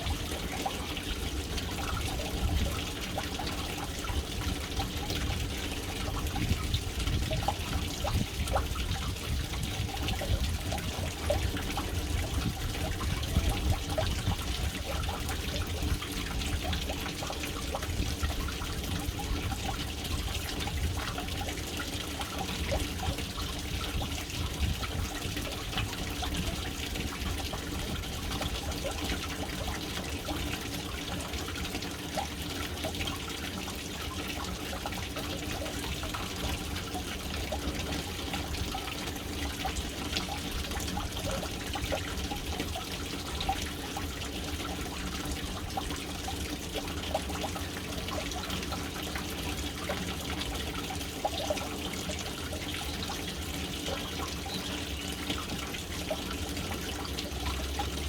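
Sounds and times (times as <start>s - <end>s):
water splashing into tank: 0.0s - 58.0s.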